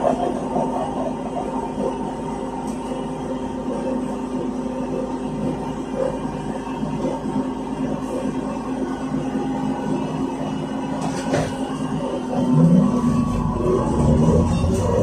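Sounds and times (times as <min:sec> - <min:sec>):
trolleybus interior hum: 0:00.0 - 0:15.0.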